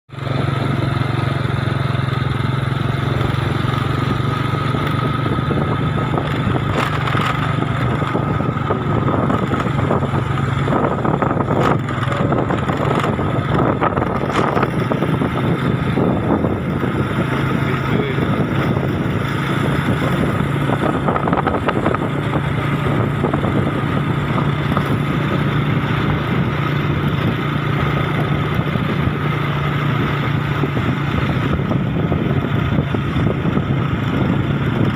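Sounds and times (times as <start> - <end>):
motorcycle engine running: 0.1 - 34.9
road noise: 0.1 - 34.9
wind noise: 2.4 - 34.9.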